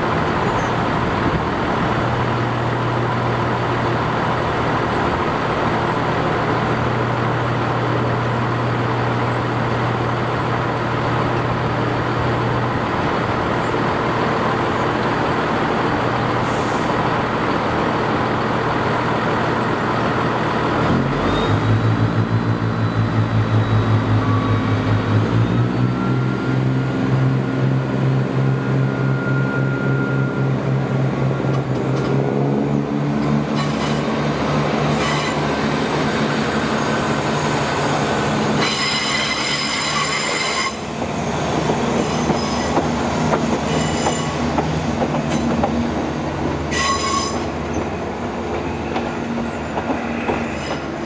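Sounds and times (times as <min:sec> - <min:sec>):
train diesel engine: 0:00.0 - 0:51.0.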